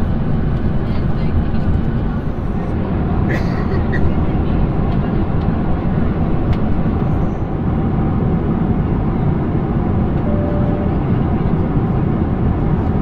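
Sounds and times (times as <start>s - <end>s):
airplane cabin engine rush: 0.0s - 13.0s.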